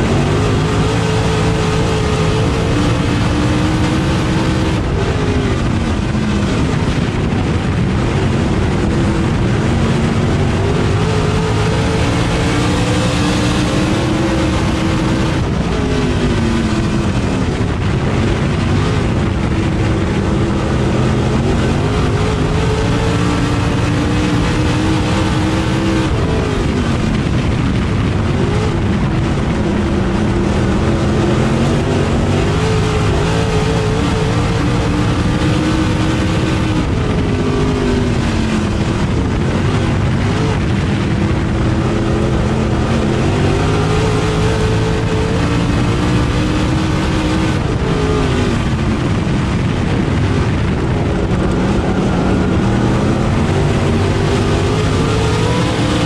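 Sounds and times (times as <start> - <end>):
racing engine revving: 0.0 - 56.0
tyre and wind noise: 0.0 - 56.0.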